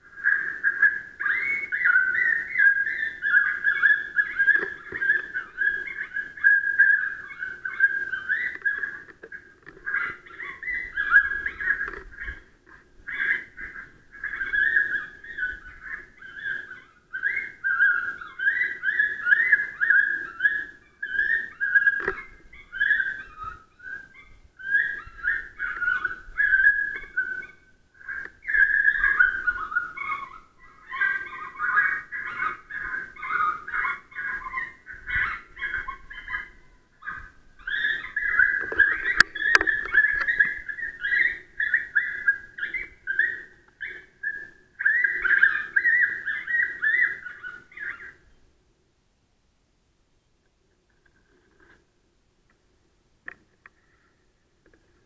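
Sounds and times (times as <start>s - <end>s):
electronic animal call: 0.1s - 48.2s.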